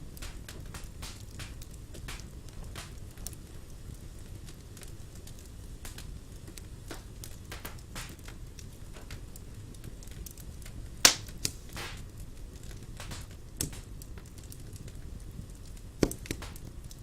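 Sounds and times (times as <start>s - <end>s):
low steady fire rumble: 0.0s - 17.0s
wood fire crackling and popping: 0.0s - 17.0s.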